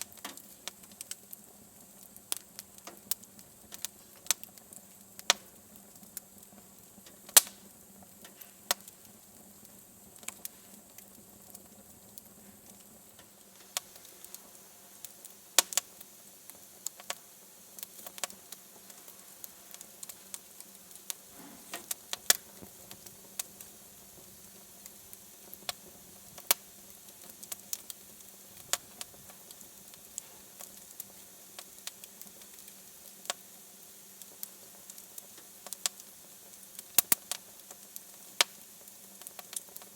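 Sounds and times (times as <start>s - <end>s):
faint steady hiss: 0.0s - 39.9s
wood fire crackling and popping: 0.0s - 39.9s.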